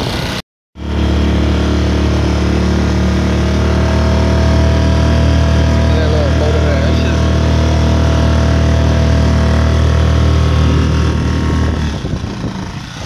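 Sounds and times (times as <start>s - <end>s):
small outboard motor running: 0.0s - 13.0s.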